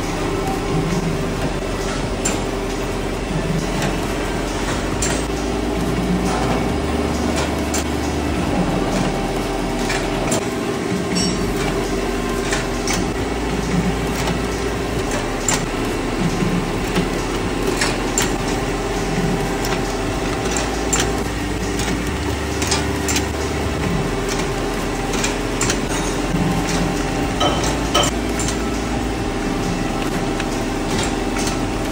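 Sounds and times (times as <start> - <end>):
machinery humming: 0.0 - 31.9
sharp clicks and clanks: 0.0 - 31.9.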